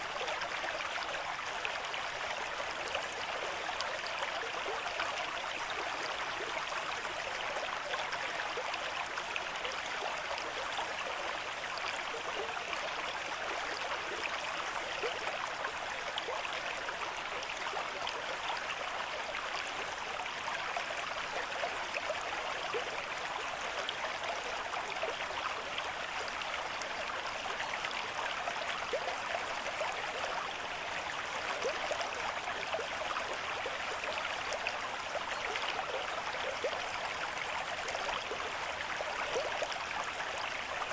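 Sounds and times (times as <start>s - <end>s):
small stream flowing: 0.0s - 40.9s.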